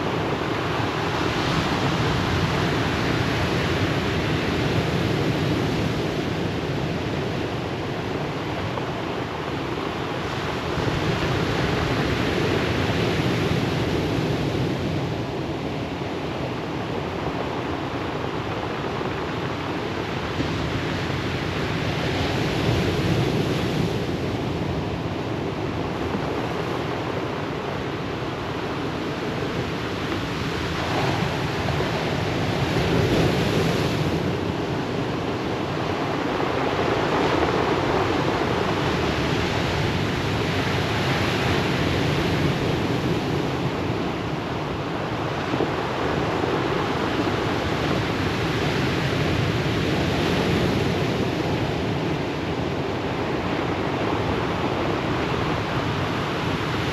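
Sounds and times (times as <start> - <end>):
ocean surf washing ashore: 0.0 - 56.9.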